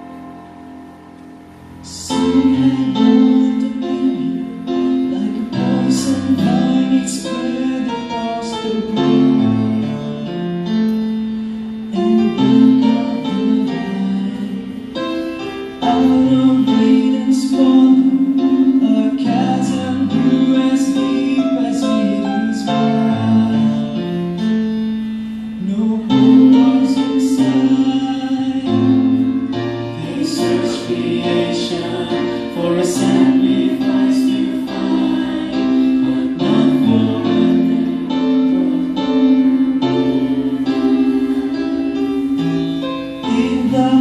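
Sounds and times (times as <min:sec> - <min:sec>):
piano accompaniment: 0:00.0 - 0:44.0
group singing a gospel song: 0:01.8 - 0:10.0, 0:11.9 - 0:24.4, 0:25.6 - 0:44.0.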